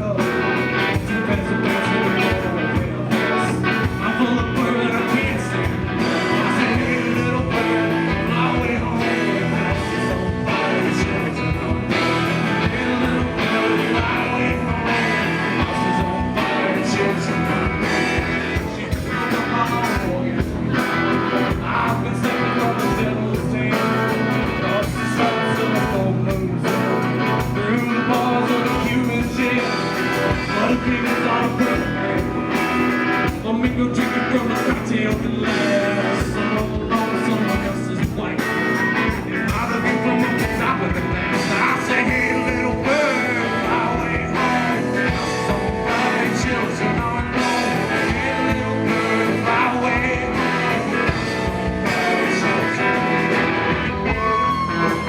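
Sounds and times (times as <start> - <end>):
drums: 0.0 - 55.0
guitars: 0.0 - 55.0
person singing: 0.0 - 55.0.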